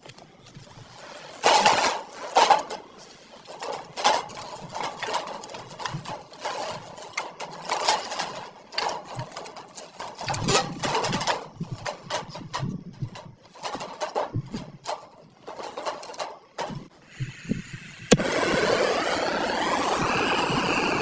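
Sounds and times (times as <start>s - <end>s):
campfire gear clattering: 0.0s - 17.0s.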